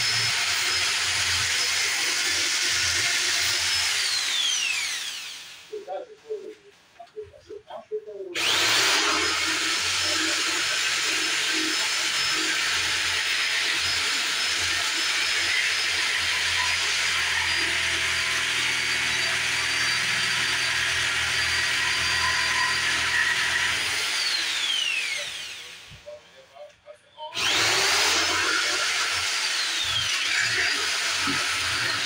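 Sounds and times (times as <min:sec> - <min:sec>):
power tool motor whine: 0:00.0 - 0:05.7, 0:08.4 - 0:26.0, 0:27.4 - 0:32.0.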